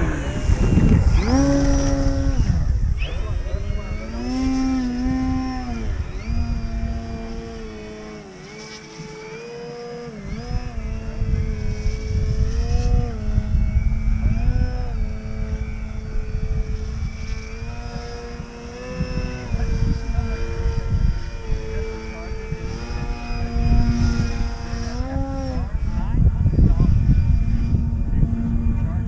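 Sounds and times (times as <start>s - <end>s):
model plane motor droning: 0.0s - 29.0s
wind rumbling on microphone: 0.0s - 29.0s.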